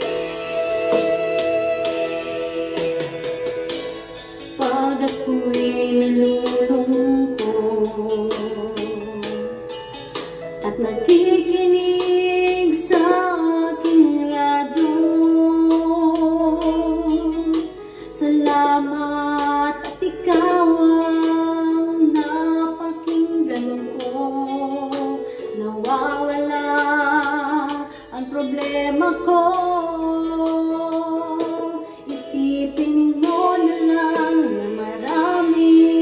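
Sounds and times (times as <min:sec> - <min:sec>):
backing track with steady beat: 0:00.0 - 0:36.0
woman singing into microphone: 0:03.8 - 0:09.9, 0:10.5 - 0:36.0.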